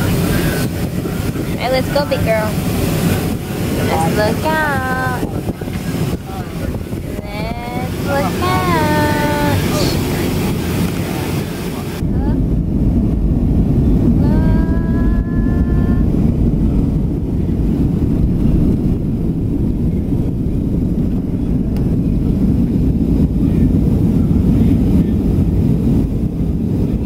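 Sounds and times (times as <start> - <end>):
jet engines rumbling at takeoff: 0.0 - 27.0.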